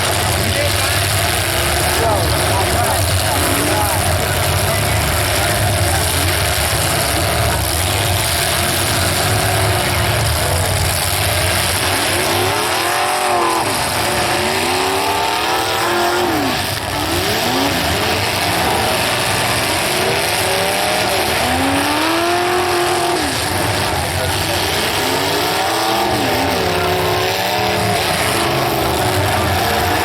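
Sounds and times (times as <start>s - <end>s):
car engines revving: 0.0s - 30.0s
loud engine din: 0.0s - 30.0s.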